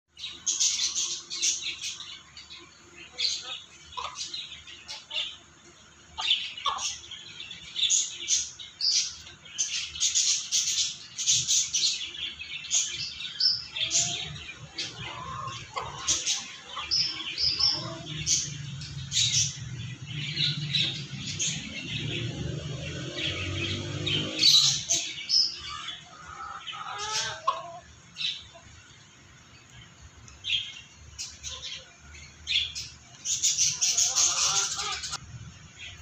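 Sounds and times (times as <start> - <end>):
birds chirping: 0.1 - 36.0.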